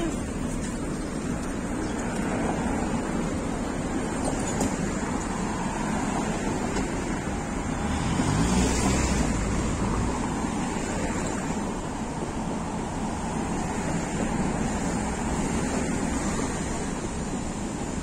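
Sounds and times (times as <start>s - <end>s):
traffic passing: 0.0s - 18.0s.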